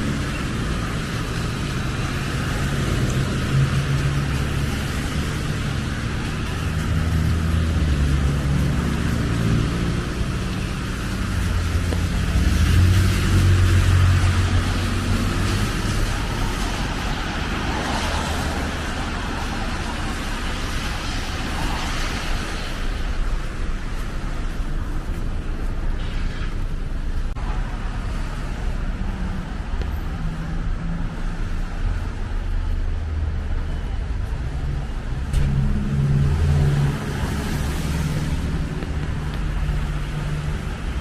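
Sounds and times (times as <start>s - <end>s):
low traffic rumble: 0.0s - 41.0s.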